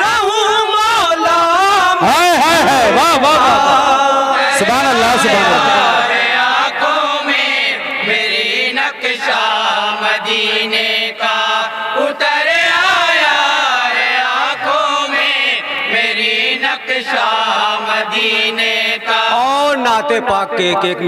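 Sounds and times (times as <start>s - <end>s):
men singing in chorus: 0.0s - 19.9s.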